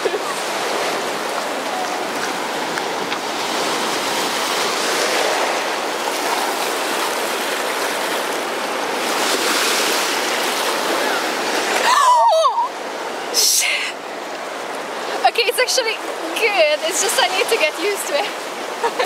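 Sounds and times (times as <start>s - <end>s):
ocean surf washing: 0.0s - 19.0s.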